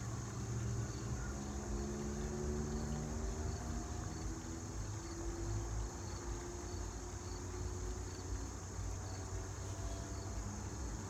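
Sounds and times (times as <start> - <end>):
crickets trilling and chirping: 0.0 - 11.0.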